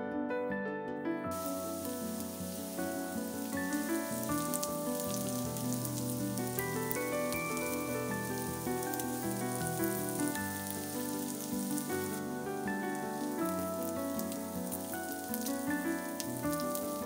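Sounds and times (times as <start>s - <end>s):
background music of held notes: 0.0s - 17.0s
potatoes sizzling in a pan: 1.3s - 17.0s.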